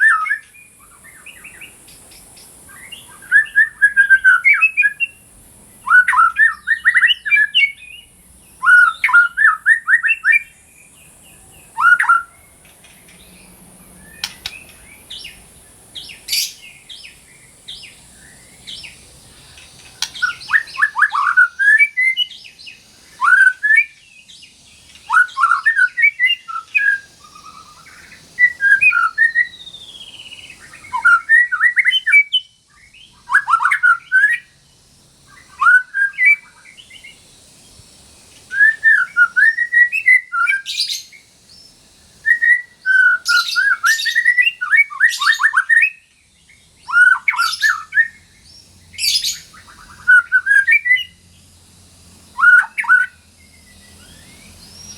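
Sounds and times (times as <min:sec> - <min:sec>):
bird singing whistled notes: 0:00.0 - 0:51.5, 0:52.3 - 0:54.9
steady high hiss: 0:00.0 - 0:54.9.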